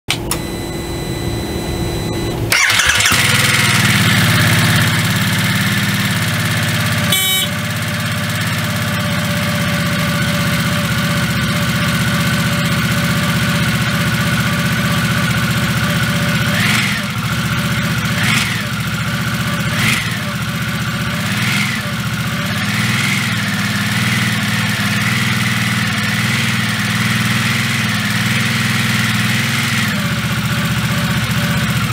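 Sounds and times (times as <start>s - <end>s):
motorcycle engine starting and idling: 0.1s - 31.9s.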